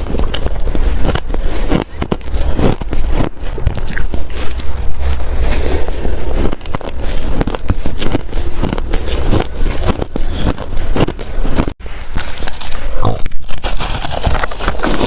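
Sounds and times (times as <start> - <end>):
ice crunching while chewed: 0.0 - 15.0.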